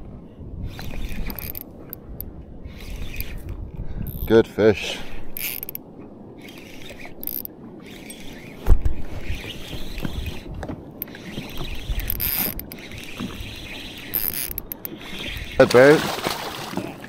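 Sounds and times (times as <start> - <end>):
fishing reel ticking: 0.7 - 4.3, 5.0 - 15.9.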